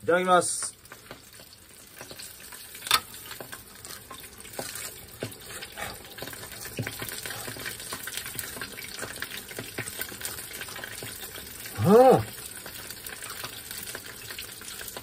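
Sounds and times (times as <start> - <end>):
frying in hot oil: 0.0 - 15.0.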